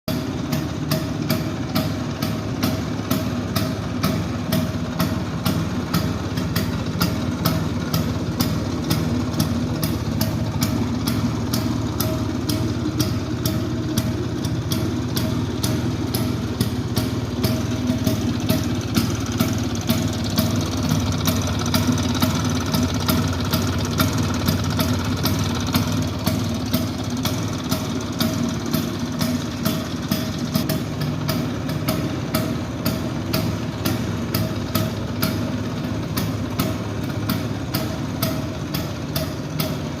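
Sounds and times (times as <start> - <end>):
scooter engine idling: 0.1 - 40.0.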